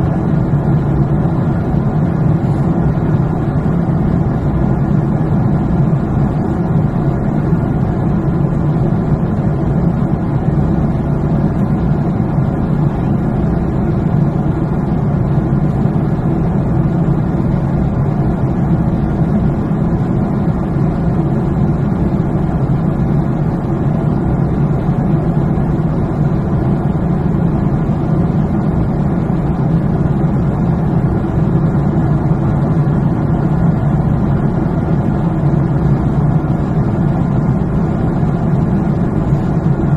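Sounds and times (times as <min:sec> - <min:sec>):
jet engine cabin drone: 0:00.0 - 0:39.9.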